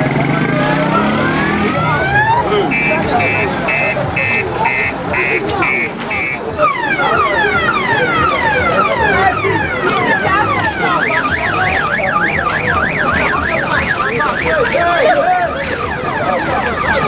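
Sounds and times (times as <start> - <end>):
ambulance siren wailing: 0.0 - 17.0.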